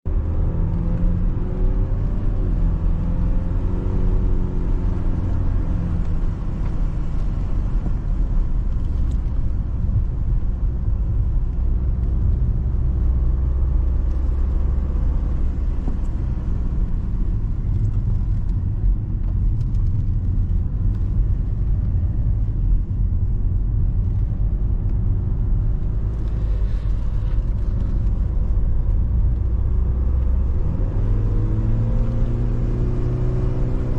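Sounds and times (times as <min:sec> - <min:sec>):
low road rumble: 0:00.0 - 0:33.9.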